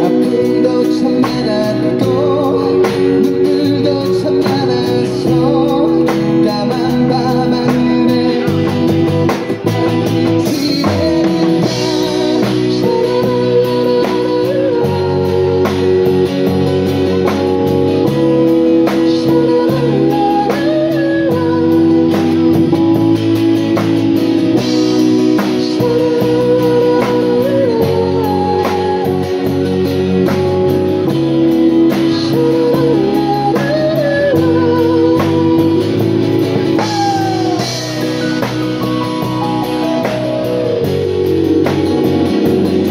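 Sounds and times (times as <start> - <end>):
person singing: 0.0 - 9.5, 10.1 - 23.2, 24.6 - 41.7
acoustic and electric guitars: 0.0 - 42.9
drum kit: 0.0 - 42.9
keyboard: 0.0 - 42.9.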